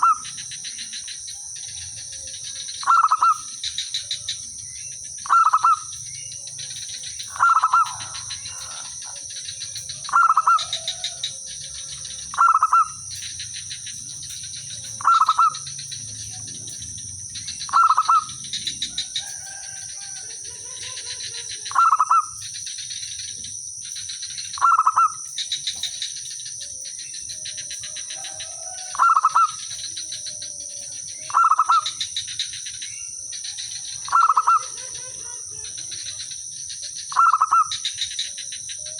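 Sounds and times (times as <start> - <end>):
dove cooing: 0.0 - 23.6, 24.2 - 38.9.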